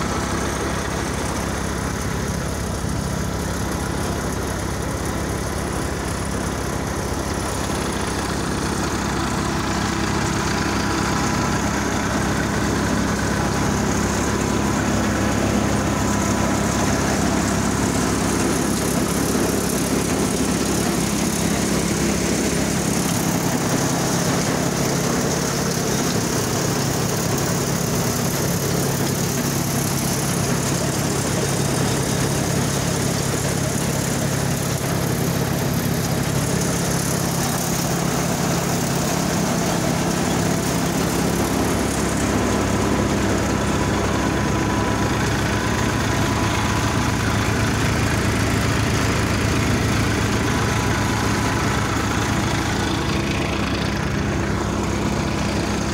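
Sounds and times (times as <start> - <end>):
thresher machine drone: 0.0 - 55.9
tractor engine running: 0.0 - 55.9.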